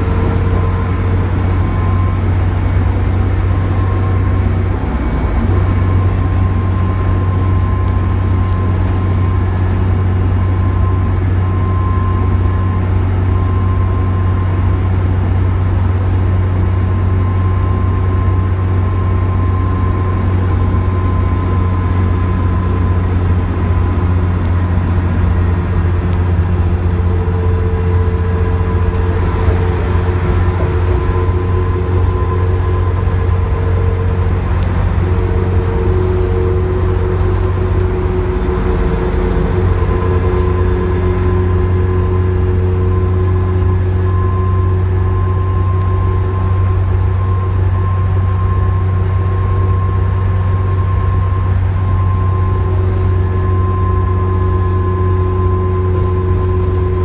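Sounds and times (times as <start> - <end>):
bus engine and road drone: 0.0 - 57.0
faint steady whine: 0.0 - 57.0
lower whine: 0.0 - 57.0.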